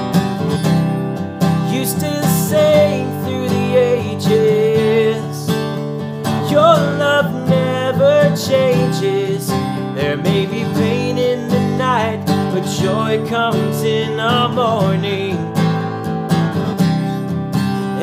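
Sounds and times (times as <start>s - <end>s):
acoustic guitar strumming: 0.0s - 18.0s
man singing: 1.6s - 16.0s.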